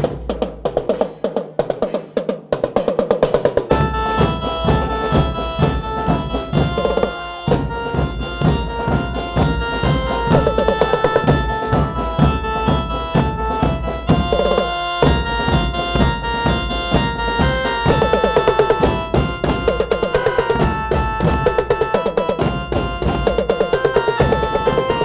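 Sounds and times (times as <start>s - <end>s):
bass drum and snare drums: 0.0s - 25.0s
sustained keyboard melody: 3.7s - 25.0s.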